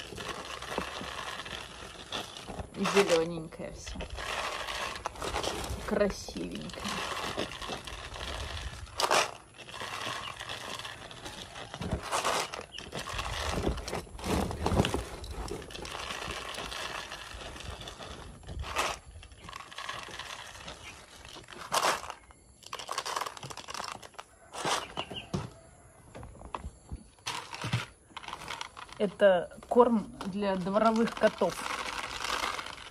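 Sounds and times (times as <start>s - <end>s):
kibble pouring into plastic bottles: 0.0s - 25.2s, 27.2s - 32.9s.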